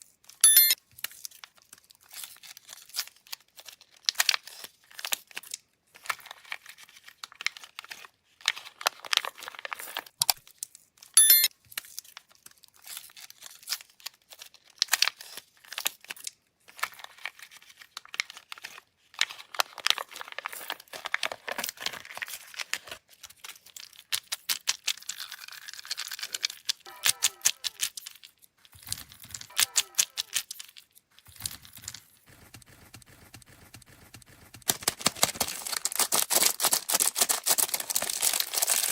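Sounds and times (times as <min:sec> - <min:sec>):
candy wrappers crinkling: 0:00.8 - 0:32.4, 0:34.6 - 0:38.9.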